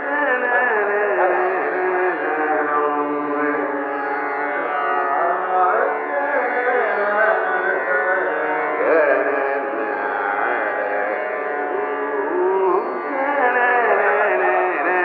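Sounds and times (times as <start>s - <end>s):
man singing ornamented phrases: 0.0s - 4.0s, 4.6s - 15.0s.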